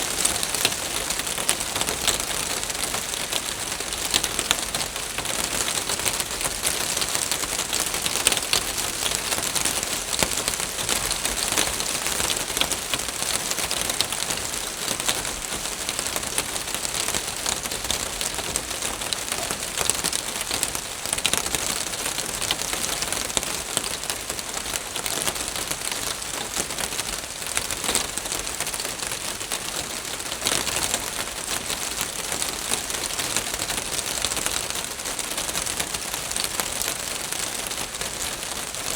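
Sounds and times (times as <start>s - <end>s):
rain pattering on a roof: 0.0s - 38.9s.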